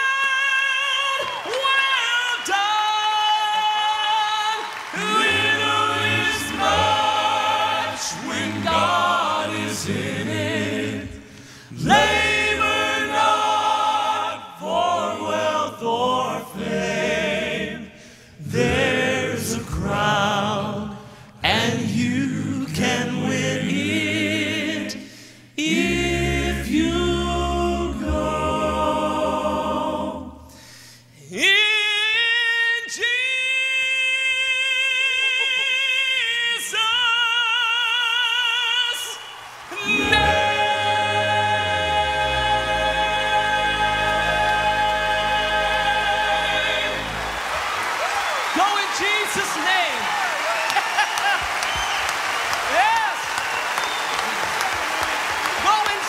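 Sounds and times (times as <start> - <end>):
male vocal quartet singing: 0.0 - 47.5.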